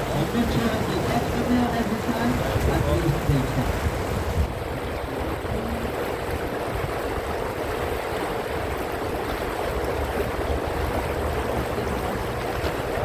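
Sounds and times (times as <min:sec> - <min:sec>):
boat engine rumble: 0:00.0 - 0:13.0
water rushing: 0:00.0 - 0:13.0.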